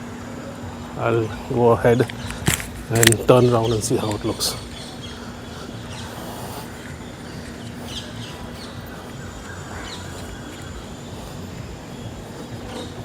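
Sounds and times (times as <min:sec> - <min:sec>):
city noise with low hum: 0:00.0 - 0:13.0
small birds chirping: 0:00.3 - 0:13.0.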